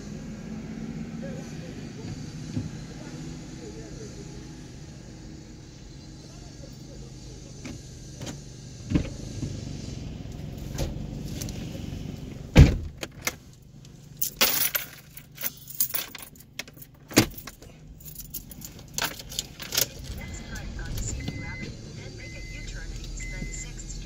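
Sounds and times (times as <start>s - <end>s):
car road and engine hum: 0.0s - 24.0s.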